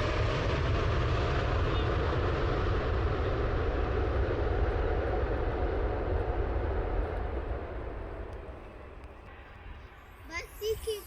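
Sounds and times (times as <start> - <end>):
jet engine rumble: 0.0 - 9.3.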